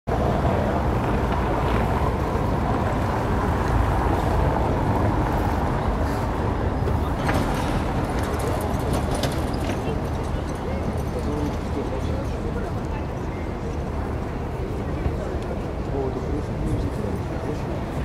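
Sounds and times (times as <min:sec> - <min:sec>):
street traffic rumble: 0:00.1 - 0:18.0.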